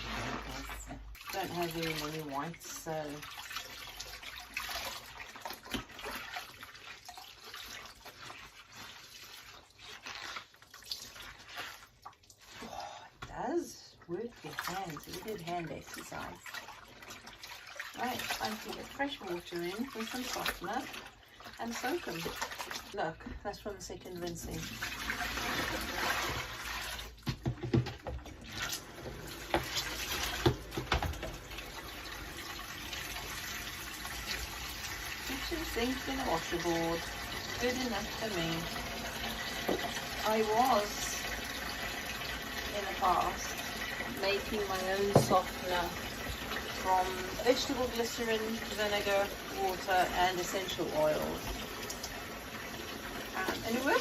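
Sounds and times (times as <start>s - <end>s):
water sloshing and splashing: 0.0s - 54.0s
water dripping: 0.5s - 12.6s, 13.2s - 54.0s.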